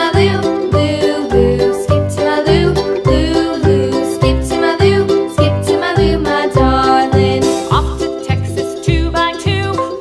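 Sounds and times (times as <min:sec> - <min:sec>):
upbeat children's music: 0:00.0 - 0:10.0.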